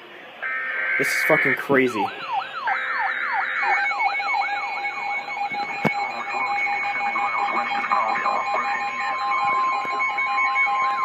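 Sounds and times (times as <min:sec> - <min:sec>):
steady alarm tones: 0:00.0 - 0:11.0
siren-like sweeping tone: 0:00.3 - 0:11.0.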